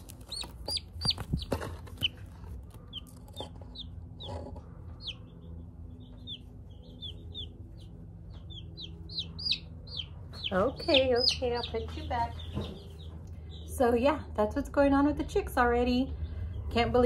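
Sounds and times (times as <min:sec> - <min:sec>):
chicks peeping: 0:00.0 - 0:13.8.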